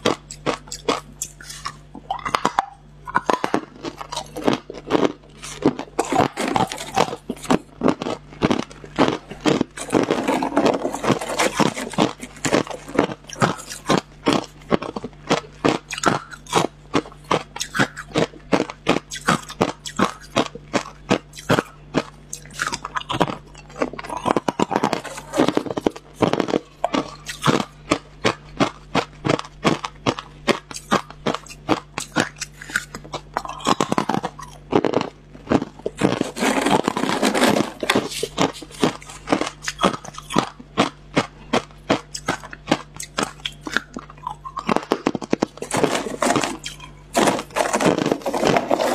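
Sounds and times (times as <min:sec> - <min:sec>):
ice being chewed: 0:00.0 - 0:48.9
steady low hum: 0:00.0 - 0:48.9.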